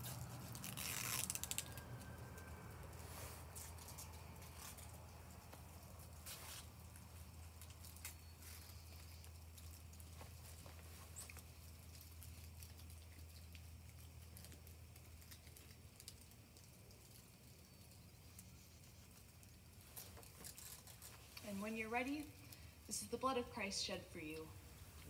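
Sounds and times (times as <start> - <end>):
faint clicks and rustles: 0.0 - 25.0.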